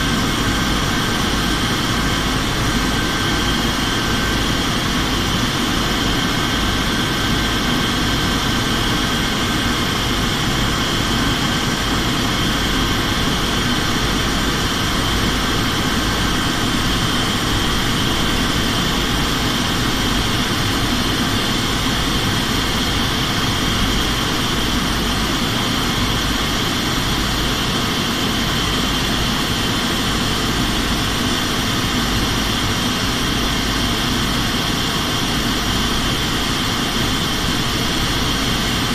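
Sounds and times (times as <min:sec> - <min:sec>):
aircraft engine and airflow roar: 0:00.0 - 0:38.9
constant high whine: 0:00.0 - 0:38.9.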